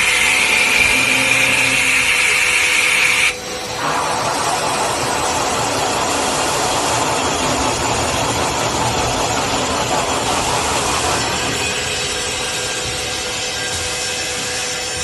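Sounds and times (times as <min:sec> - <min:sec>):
drilling machine running: 0:00.0 - 0:15.0.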